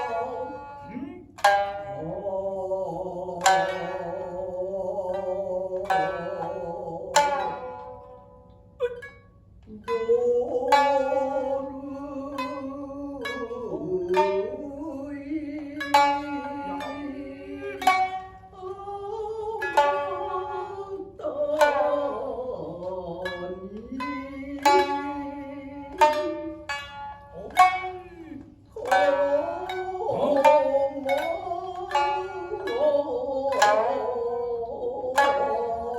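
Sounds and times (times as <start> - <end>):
plucked shamisen notes: 0.0 - 35.9
wavering held vocal tones: 0.0 - 35.9.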